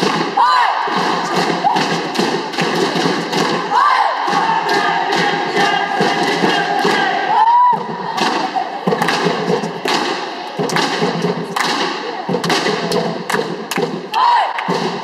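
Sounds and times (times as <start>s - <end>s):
marching drums striking in unison: 0.0s - 15.0s.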